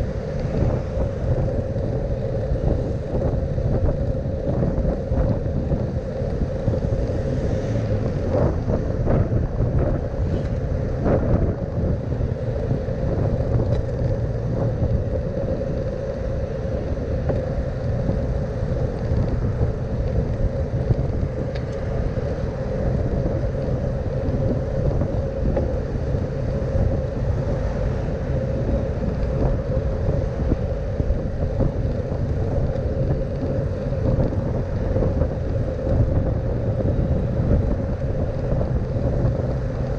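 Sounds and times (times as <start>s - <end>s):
mid-pitched hum: 0.0s - 39.9s
wind and road noise: 0.0s - 39.9s.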